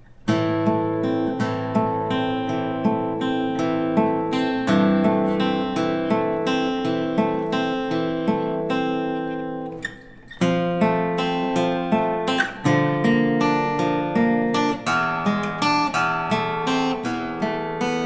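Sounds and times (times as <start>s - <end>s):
fingerstyle acoustic guitar: 0.0s - 18.0s.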